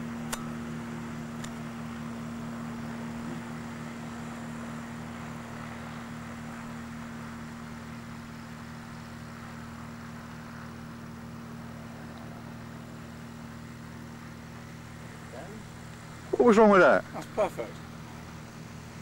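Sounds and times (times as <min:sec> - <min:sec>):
steady engine drone: 0:00.0 - 0:19.0.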